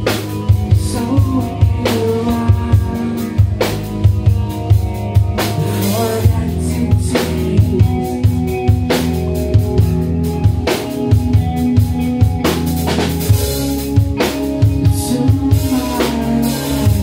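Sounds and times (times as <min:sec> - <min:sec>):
drum kit beat: 0:00.0 - 0:17.0
electric bass: 0:00.0 - 0:17.0
electric guitar notes: 0:00.0 - 0:17.0.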